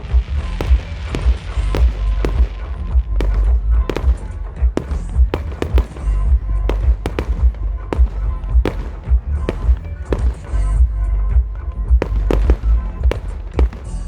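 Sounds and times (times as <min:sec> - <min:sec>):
continuous low rumble: 0:00.0 - 0:14.0
fireworks banging: 0:00.0 - 0:14.0.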